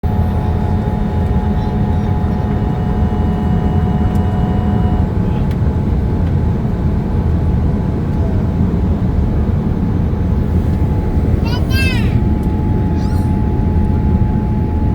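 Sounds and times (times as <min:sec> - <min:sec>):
airplane cabin engine rumble: 0:00.0 - 0:14.9.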